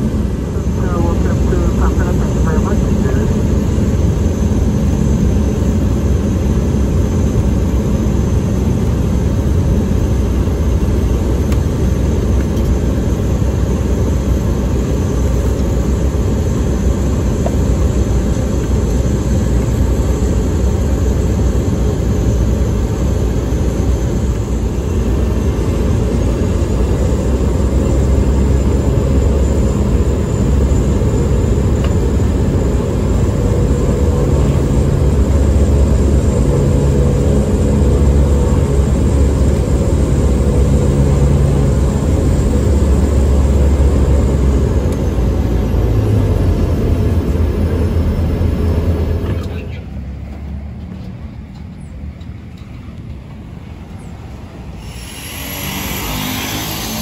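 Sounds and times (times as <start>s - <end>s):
high engine whine: 0.0s - 57.0s
turboprop engine drone: 0.0s - 57.0s.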